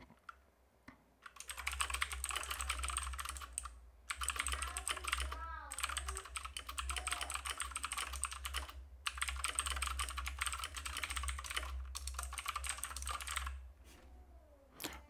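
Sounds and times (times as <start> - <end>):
typing on a keyboard: 1.2 - 13.6.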